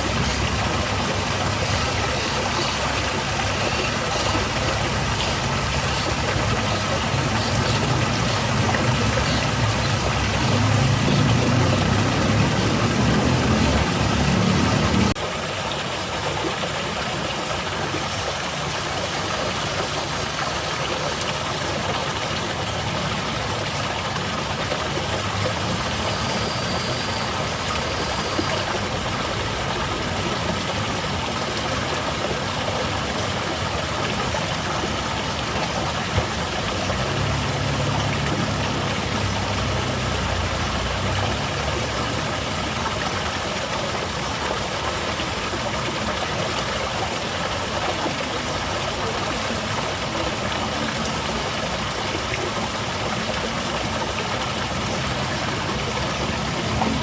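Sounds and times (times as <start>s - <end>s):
garden waterfall splashing: 0.0s - 57.0s.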